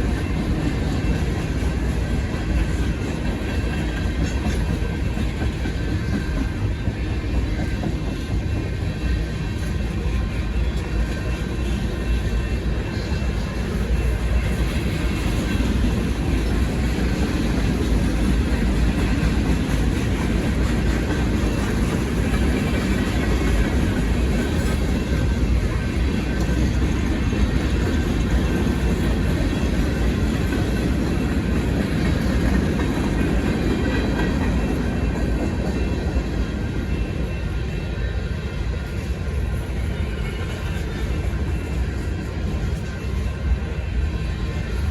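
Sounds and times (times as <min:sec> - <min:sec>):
crossing bells ringing: 0:00.0 - 0:44.9
train wheels rumbling on rail: 0:00.0 - 0:44.9.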